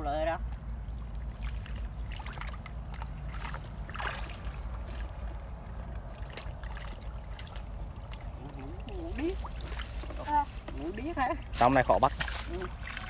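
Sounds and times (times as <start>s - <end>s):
pole moving through water: 0.4s - 11.1s, 12.0s - 13.0s
footsteps in muddy water: 0.4s - 13.0s
water splash: 0.5s - 10.4s, 11.6s - 13.0s
grass rustling: 0.8s - 13.0s.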